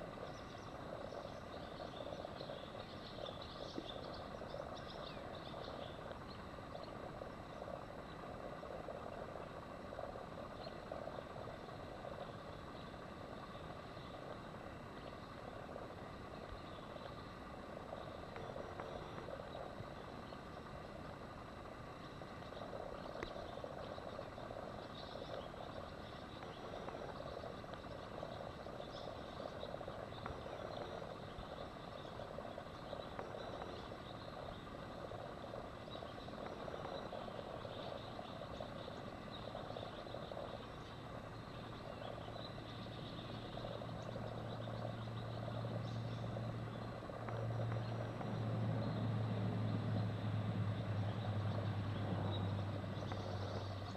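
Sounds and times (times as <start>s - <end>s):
even rush of outdoor noise: 0.0s - 53.9s
wavering mid-pitched hum: 0.0s - 53.9s.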